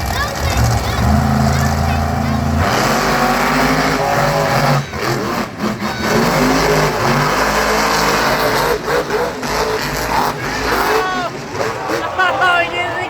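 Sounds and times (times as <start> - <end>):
truck engine revving hard: 0.0 - 12.1.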